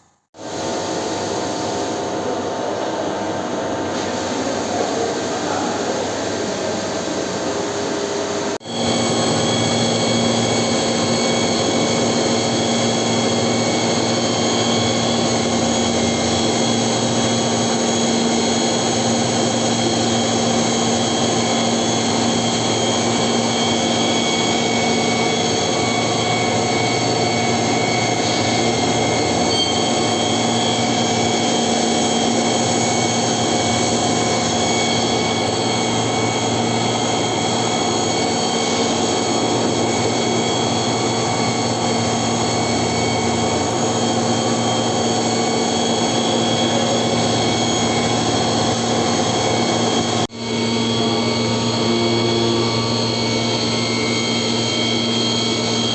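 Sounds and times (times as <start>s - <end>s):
milling machine humming: 0.4s - 55.9s.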